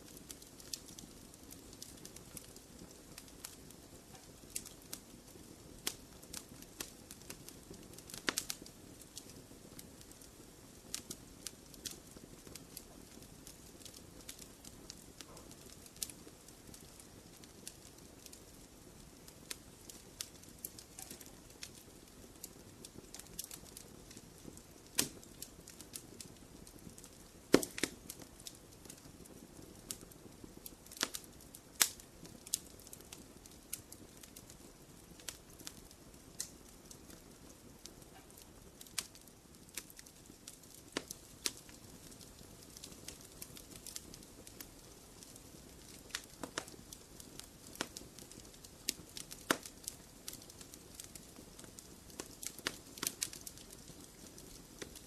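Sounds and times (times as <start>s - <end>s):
faint hiss of flames: 0.0s - 55.0s
fire pops and snaps: 0.0s - 55.0s
wood fire crackling: 0.0s - 55.0s.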